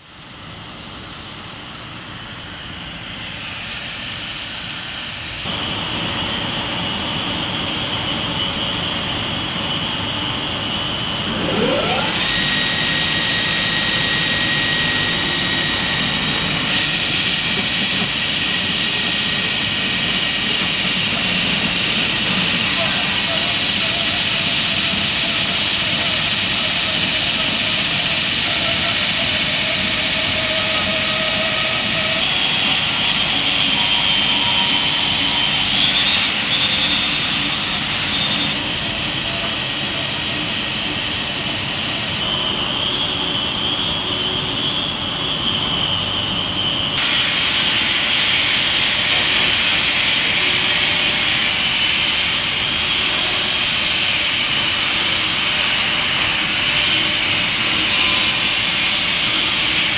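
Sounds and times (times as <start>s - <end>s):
high machine whine: 0.0s - 59.9s
industrial machinery running: 0.0s - 59.9s.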